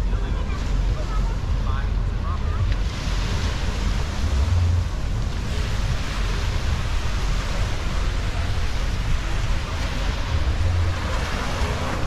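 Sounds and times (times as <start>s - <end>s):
small waves breaking on shore: 0.0s - 12.0s
wind buffeting microphone: 0.0s - 12.0s.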